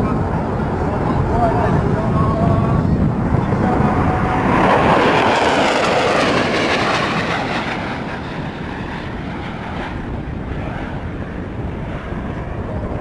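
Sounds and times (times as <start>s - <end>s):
jet passing with rushing roar: 0.0s - 13.0s.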